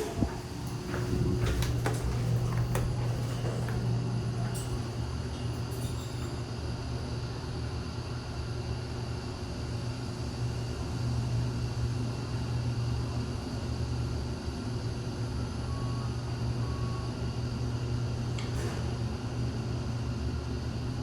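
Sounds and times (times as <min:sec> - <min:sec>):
elevator hum and rumble: 0:00.0 - 0:21.0.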